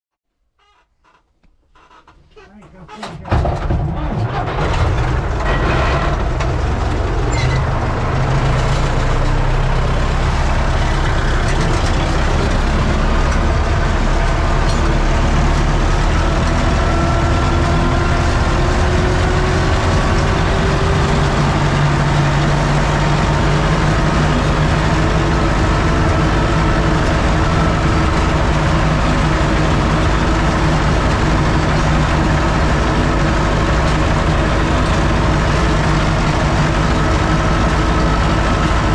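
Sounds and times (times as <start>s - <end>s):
tractor diesel engine running: 1.8s - 38.9s.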